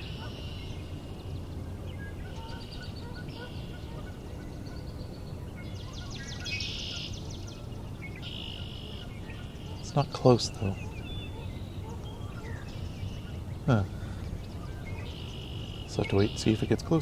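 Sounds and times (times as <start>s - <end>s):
distant songbird trilling: 0.0s - 17.0s.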